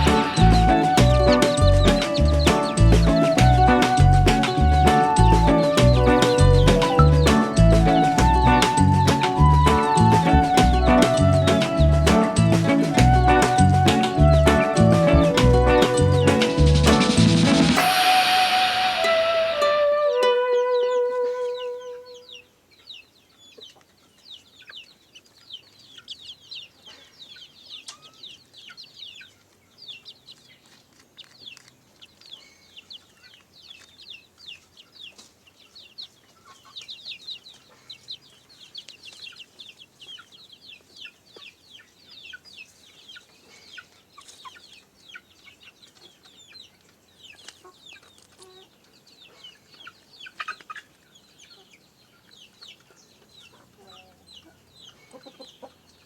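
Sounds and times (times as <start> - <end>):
chickens peeping: 0.0 - 56.0.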